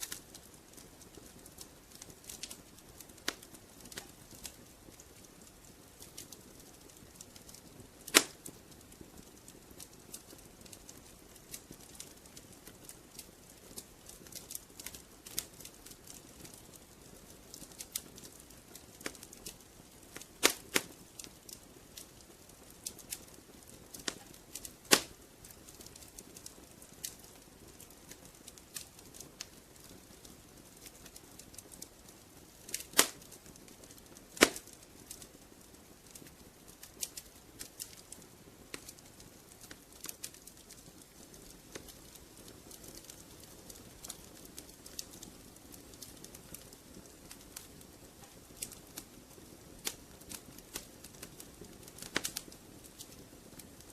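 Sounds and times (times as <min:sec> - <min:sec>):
burning logs popping: 0:00.0 - 0:53.9
wood fire crackling: 0:00.0 - 0:53.9.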